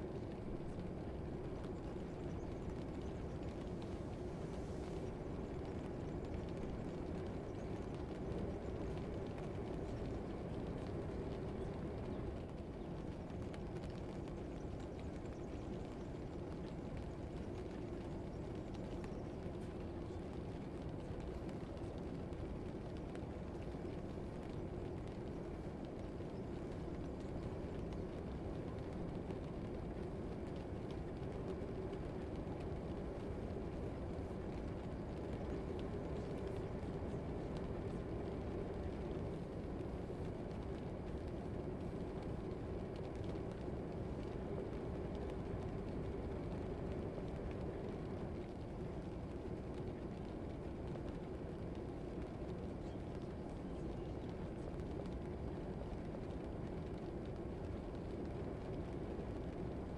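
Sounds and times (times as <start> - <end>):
low background rumble: 0.0 - 59.9.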